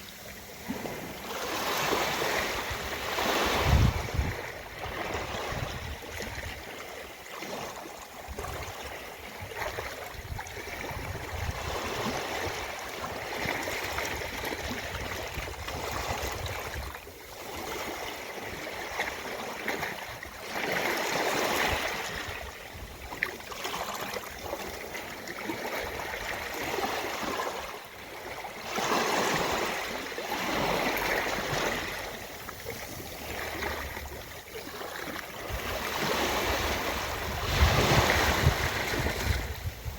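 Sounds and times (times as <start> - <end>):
ocean waves on a beach: 0.0 - 39.9.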